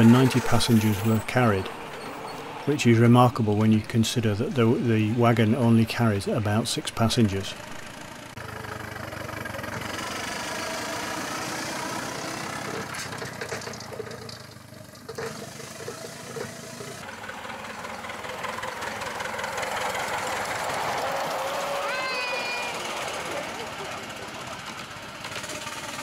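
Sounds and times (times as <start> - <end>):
miniature steam locomotive working: 0.0 - 26.0
miniature steam lorry running: 0.0 - 26.0.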